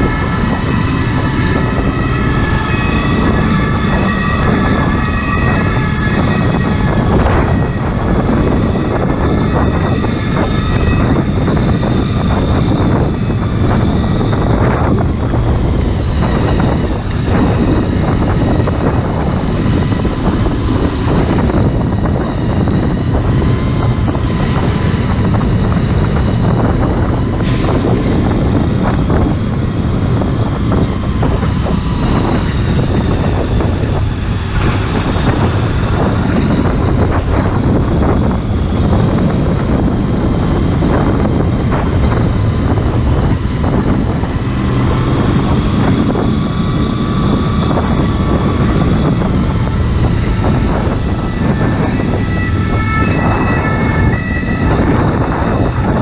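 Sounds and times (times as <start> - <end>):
wind buffeting on microphone: 0.0 - 56.0.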